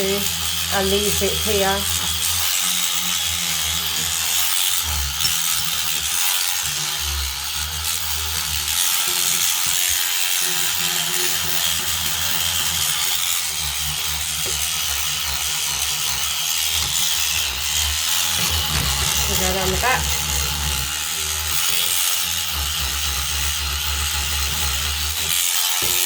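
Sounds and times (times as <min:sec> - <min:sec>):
cleaning brush motor buzz: 0:00.0 - 0:26.0.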